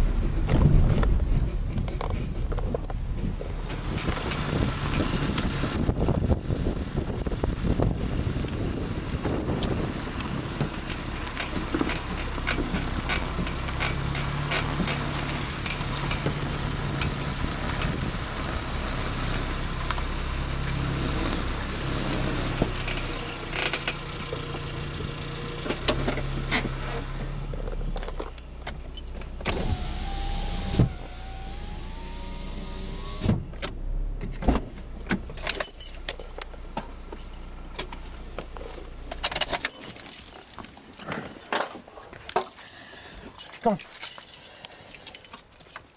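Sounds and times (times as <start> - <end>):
car engine running: 0.0 - 40.1.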